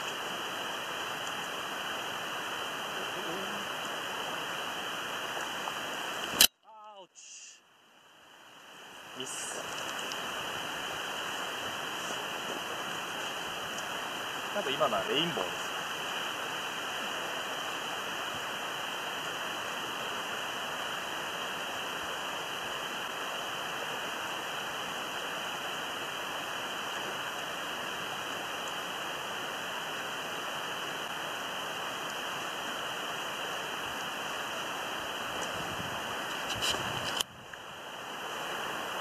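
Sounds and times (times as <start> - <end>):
running water rushing: 0.0 - 7.1, 7.8 - 39.0.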